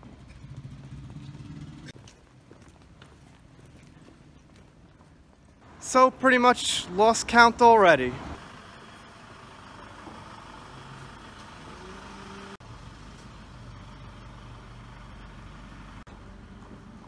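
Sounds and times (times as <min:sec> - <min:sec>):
faint hum of vehicle engines: 0:00.0 - 0:17.0
road traffic noise: 0:00.0 - 0:17.0.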